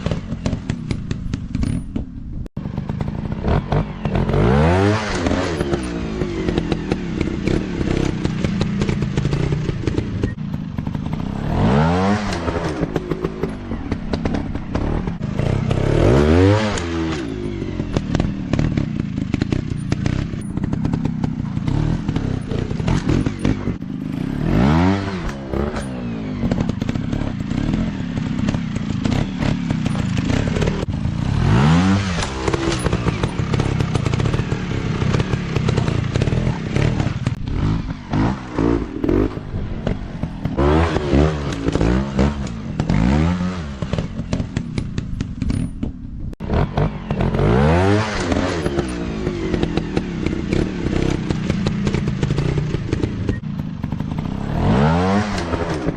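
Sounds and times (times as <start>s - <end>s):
knocks and clatter: 0.0s - 4.4s, 5.1s - 24.2s, 25.0s - 55.9s
dirt bike engines revving: 0.0s - 55.9s.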